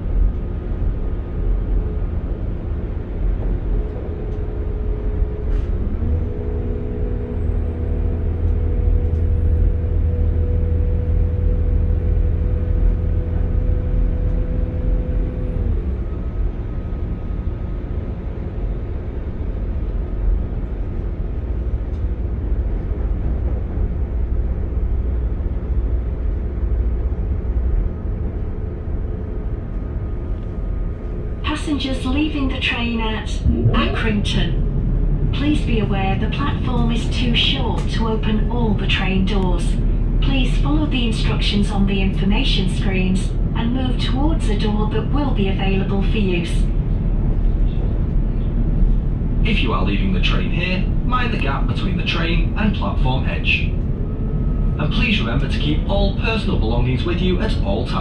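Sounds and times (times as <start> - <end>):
droning engine note: 0.0 - 58.0
train engines and wheels rumbling: 0.0 - 58.0.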